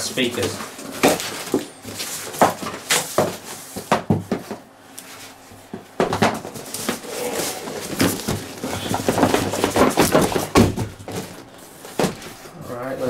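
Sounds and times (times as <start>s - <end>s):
cardboard boxes knocking and scraping: 0.0s - 4.7s, 5.7s - 12.4s.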